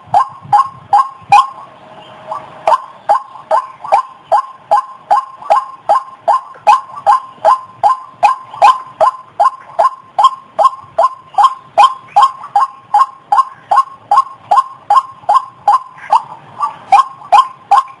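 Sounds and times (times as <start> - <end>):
waterhen calling harsh notes: 0.0 - 18.0.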